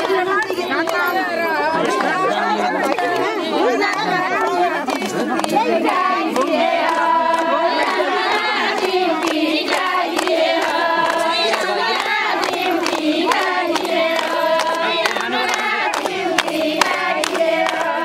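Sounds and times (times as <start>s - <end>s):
hand claps: 0.0s - 18.0s
women singing folk song: 1.8s - 18.0s.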